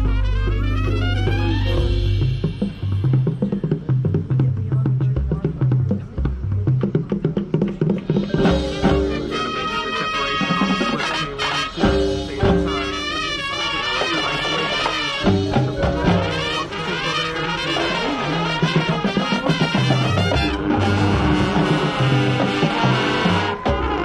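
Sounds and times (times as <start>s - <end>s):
marching band playing: 0.0s - 24.0s.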